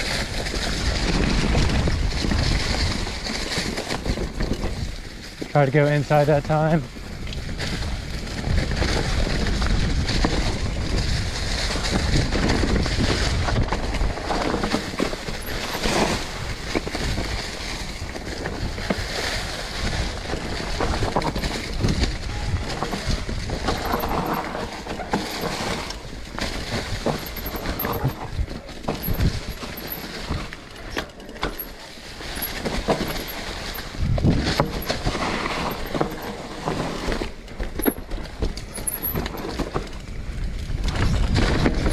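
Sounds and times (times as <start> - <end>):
bike knocking and rattling: 0.0 - 41.9
bike tyres rolling over dry leaves: 0.0 - 41.9.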